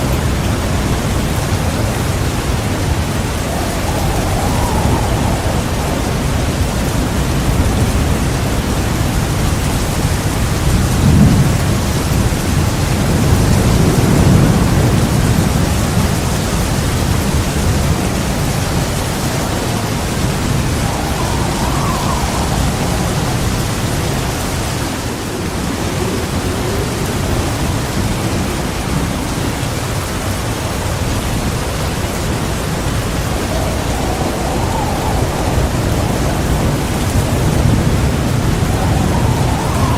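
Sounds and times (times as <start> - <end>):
heavy rain pouring: 0.0 - 39.9
thunder rumbling: 0.0 - 39.9.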